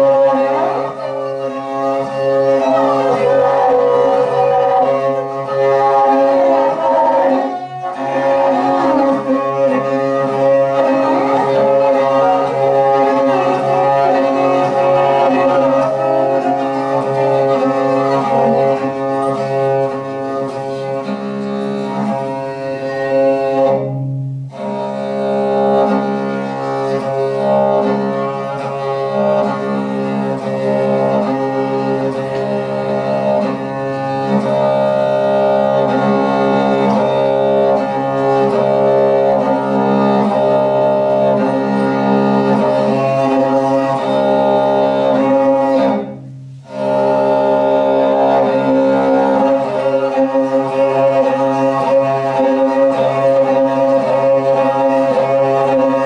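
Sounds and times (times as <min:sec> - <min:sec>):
bowed fiddle: 0:00.0 - 0:56.0.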